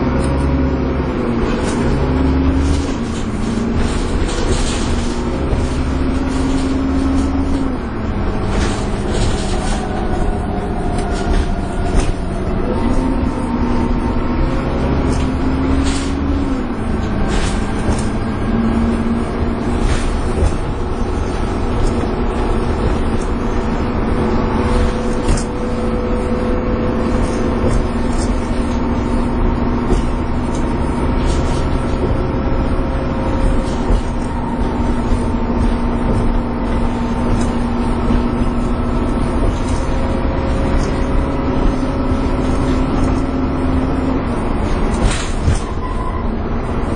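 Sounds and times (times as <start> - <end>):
bus body rattles: 0.0 - 46.9
bus engine whine: 0.0 - 46.9.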